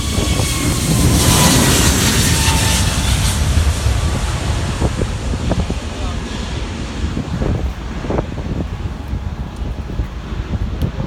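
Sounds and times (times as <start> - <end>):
faint jet whine: 0.0 - 10.7
jet engines roaring: 0.0 - 11.0.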